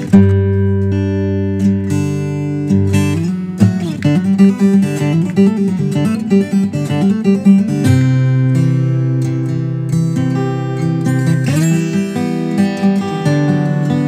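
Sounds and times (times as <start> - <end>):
acoustic guitar picked notes: 0.0 - 14.0
guitar chord ringing: 0.0 - 14.0.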